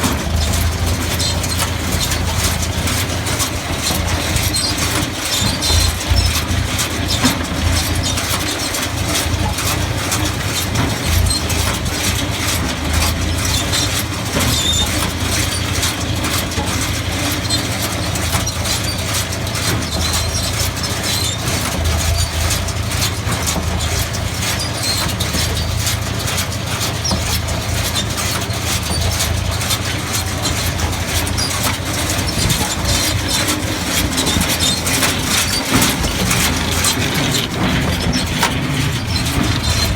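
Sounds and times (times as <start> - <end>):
hay baler knocking and clattering: 0.0 - 39.9
tractor engine running: 0.0 - 39.9.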